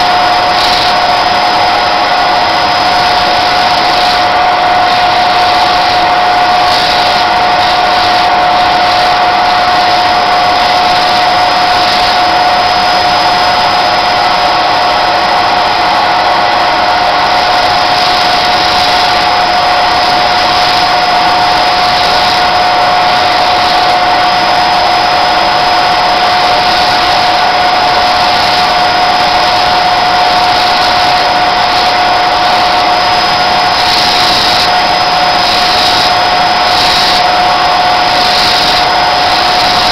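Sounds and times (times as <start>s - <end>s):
electric sanding disc whining: 0.0s - 39.9s.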